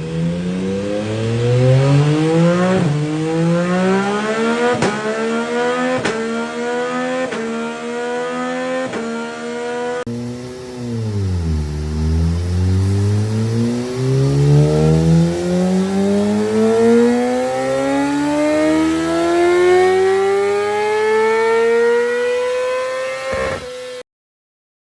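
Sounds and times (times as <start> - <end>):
motorcycle engine revving at full throttle: 0.0 - 24.0.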